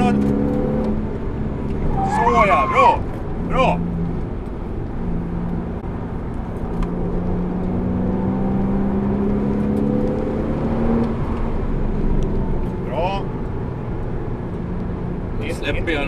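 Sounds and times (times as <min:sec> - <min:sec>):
car engine accelerating: 0:00.0 - 0:16.0
road and tyre noise: 0:00.0 - 0:16.0.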